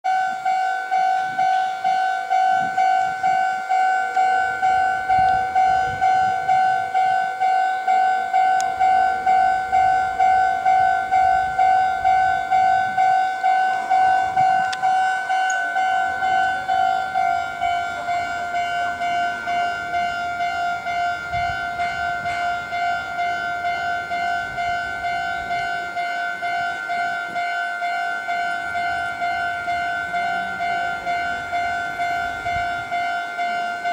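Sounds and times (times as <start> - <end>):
level crossing warning bell: 0.0 - 33.9.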